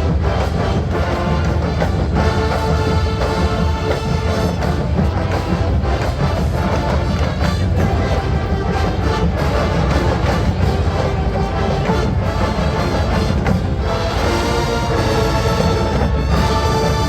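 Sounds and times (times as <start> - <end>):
brass and woodwinds playing chords: 0.0 - 17.0
drumline: 0.0 - 17.0.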